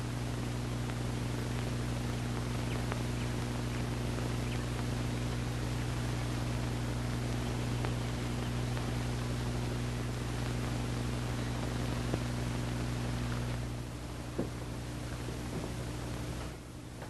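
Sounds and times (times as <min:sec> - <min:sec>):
constant hiss: 0:00.0 - 0:17.0
electrical hum: 0:00.0 - 0:17.0.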